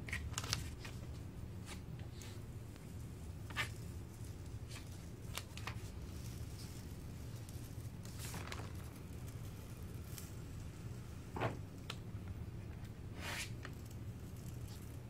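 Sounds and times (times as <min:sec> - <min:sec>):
stencil sheet crinkling: 0:00.0 - 0:11.9, 0:13.1 - 0:15.0
steady low hum: 0:00.0 - 0:15.0.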